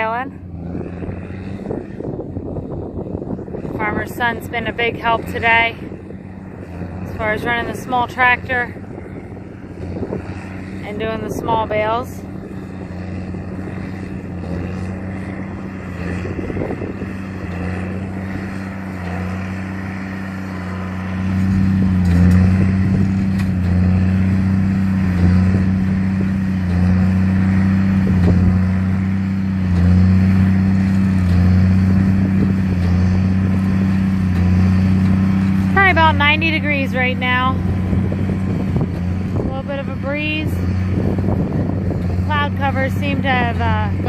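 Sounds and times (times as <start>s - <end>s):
tractor engine droning: 0.0s - 44.0s.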